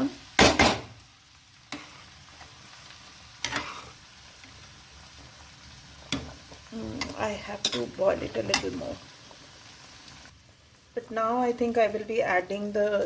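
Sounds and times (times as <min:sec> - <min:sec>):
pan sizzling: 0:00.0 - 0:13.0.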